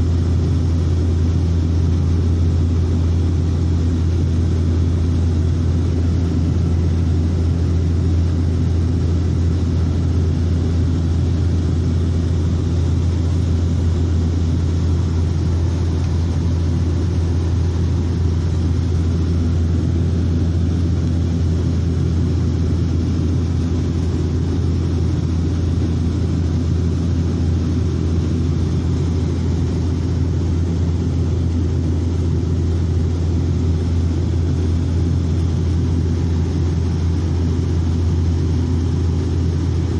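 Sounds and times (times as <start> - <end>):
airliner engine drone: 0.0 - 39.9.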